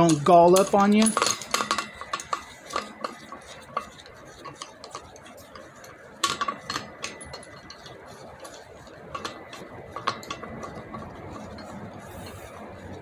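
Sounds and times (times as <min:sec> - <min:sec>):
metal tool clinking: 0:00.0 - 0:12.6.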